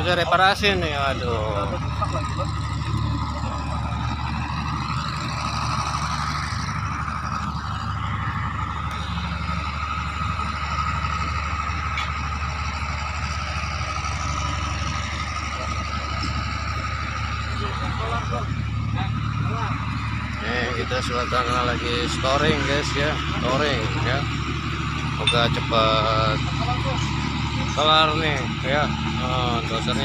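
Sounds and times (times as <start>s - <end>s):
diesel engine idling: 0.0s - 30.0s
steady high whine: 0.0s - 30.0s.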